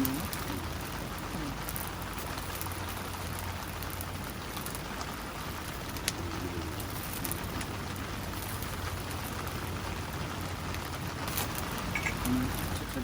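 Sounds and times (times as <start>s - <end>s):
drops ticking: 0.0s - 13.0s
steady rain falling: 0.0s - 13.0s.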